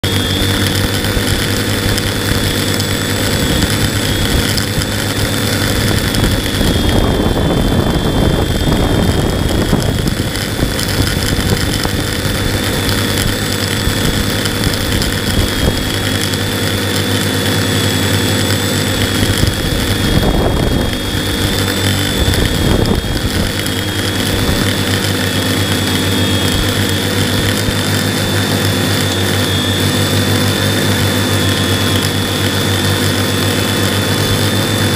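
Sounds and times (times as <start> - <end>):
drone propellers buzzing: 0.0 - 34.9
rushing noise: 0.0 - 34.9.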